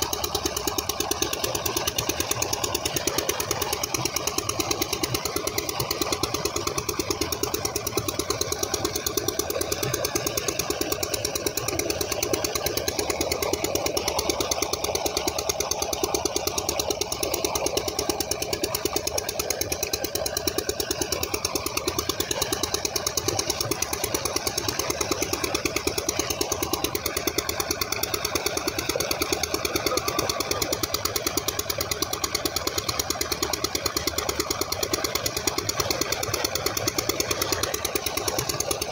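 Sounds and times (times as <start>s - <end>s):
stationary pump engine running: 0.0s - 38.9s
water pouring into tank: 0.0s - 38.9s.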